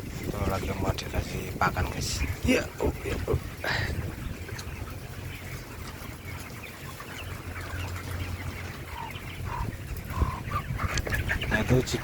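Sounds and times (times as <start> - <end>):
chickens chirping: 0.0 - 12.0.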